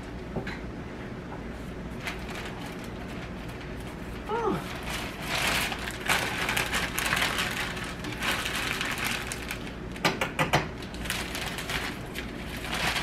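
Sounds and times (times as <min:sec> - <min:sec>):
rustling and scraping in a bowl: 0:01.5 - 0:09.8, 0:10.9 - 0:13.0.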